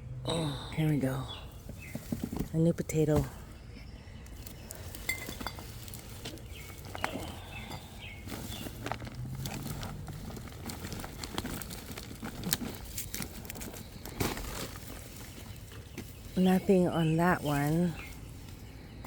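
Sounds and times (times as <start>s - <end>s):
hands rustling through soil: 0.3s - 19.0s.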